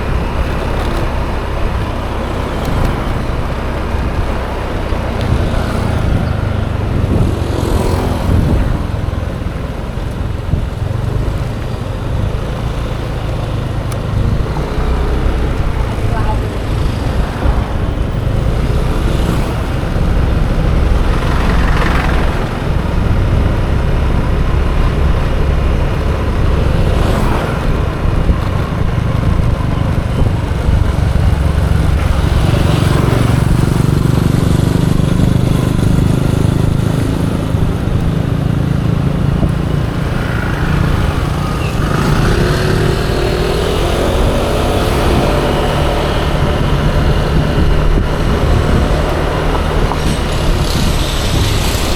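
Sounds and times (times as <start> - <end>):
scooter engine running: 0.0 - 51.9
vehicles passing: 0.0 - 51.9
wind rumble on microphone: 0.0 - 51.9.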